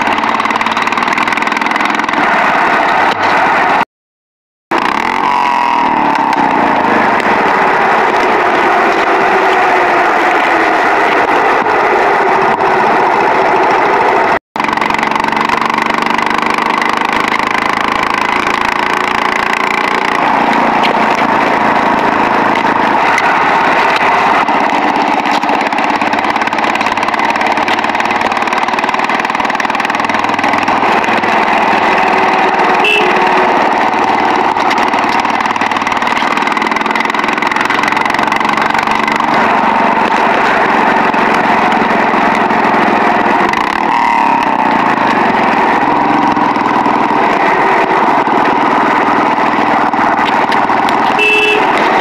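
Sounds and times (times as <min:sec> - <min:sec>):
motorcycle engine running: 0:00.0 - 0:03.8, 0:04.7 - 0:52.0.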